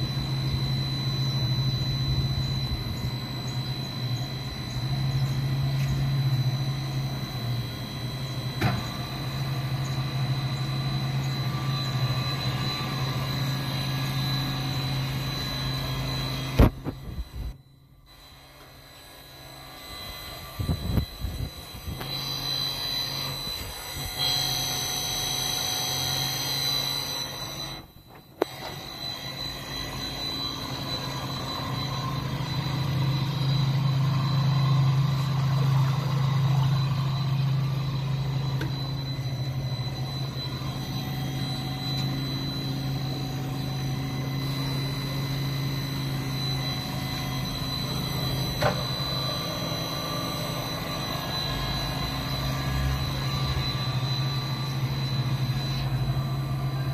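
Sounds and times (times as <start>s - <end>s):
electric motors humming: 0.0s - 56.9s.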